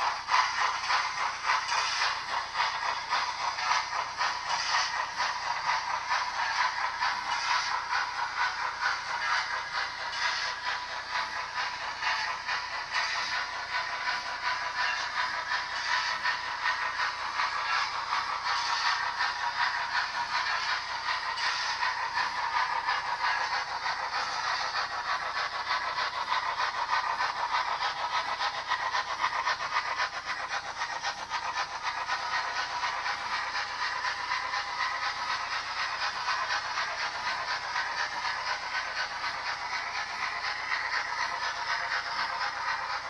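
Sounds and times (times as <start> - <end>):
model train wheels rattling on track: 0.0 - 43.0
steam chuffing and hiss from speaker: 0.0 - 43.0.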